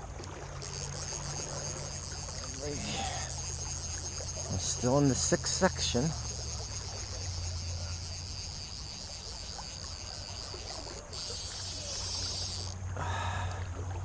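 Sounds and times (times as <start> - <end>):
crickets chirring: 0.0 - 13.3.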